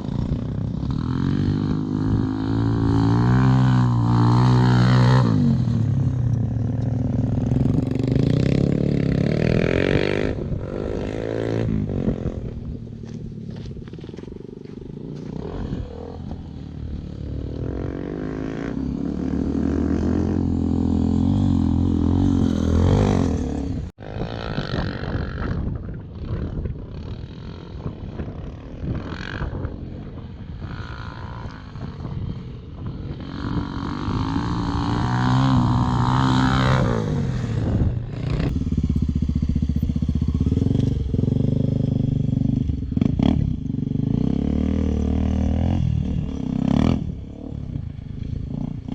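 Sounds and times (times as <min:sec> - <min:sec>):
dirt bike engines revving: 0:00.0 - 0:48.9.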